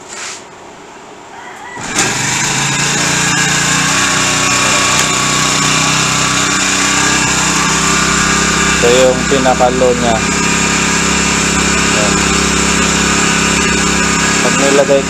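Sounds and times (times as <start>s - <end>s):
outboard motor running: 1.8s - 15.0s.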